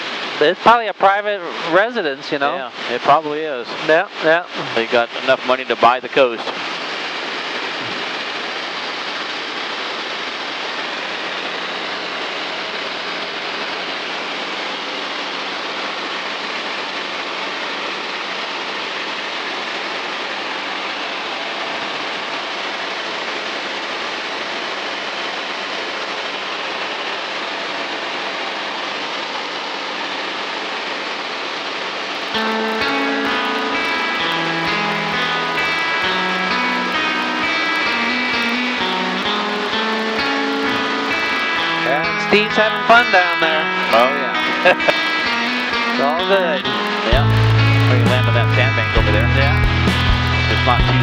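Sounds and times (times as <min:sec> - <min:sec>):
plane engine and propeller drone: 0:00.0 - 0:51.0.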